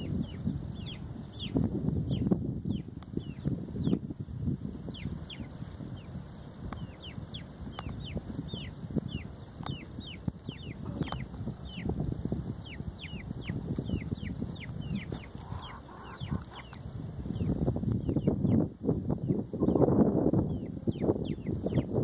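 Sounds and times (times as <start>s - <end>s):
low rumble and rustle: 0.0s - 22.0s
chicks peeping: 0.1s - 4.0s, 4.9s - 6.1s, 6.8s - 12.0s, 12.6s - 18.7s, 19.3s - 21.9s.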